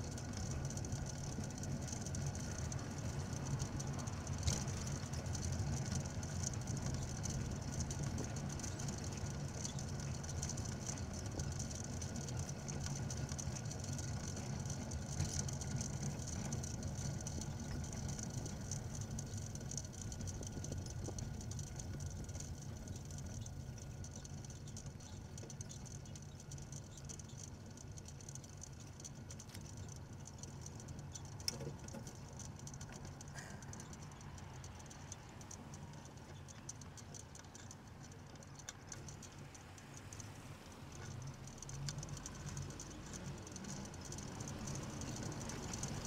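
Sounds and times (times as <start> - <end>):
bicycle riding rumble: 0.0 - 46.0
light rattle: 0.0 - 46.0.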